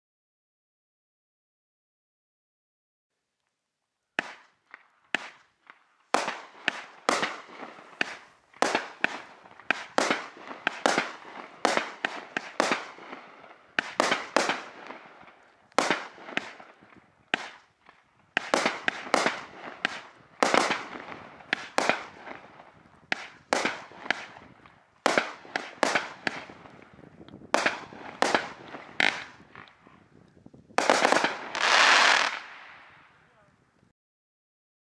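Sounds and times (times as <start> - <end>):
fireworks shots and bursts: 4.2 - 30.0, 30.7 - 33.4.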